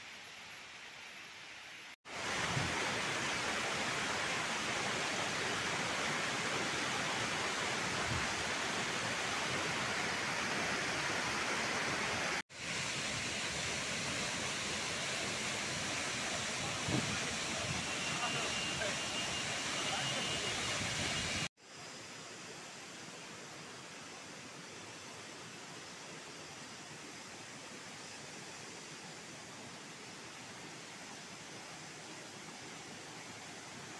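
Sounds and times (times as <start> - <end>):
waterfall rushing into pool: 0.0 - 33.9.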